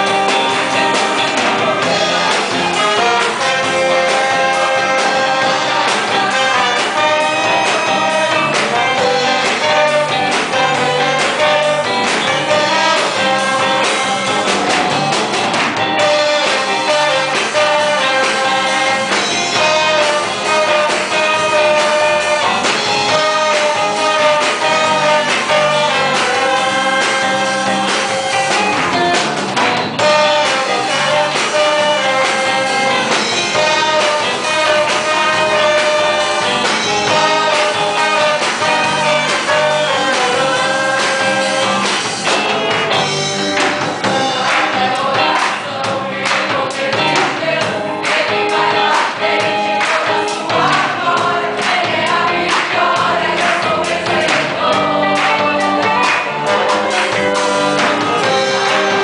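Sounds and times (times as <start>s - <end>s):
band playing: 0.0s - 59.0s
youth choir singing: 0.0s - 59.0s.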